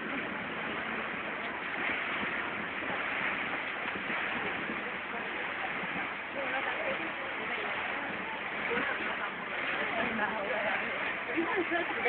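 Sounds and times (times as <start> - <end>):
rushing noise aboard boat: 0.0 - 12.0.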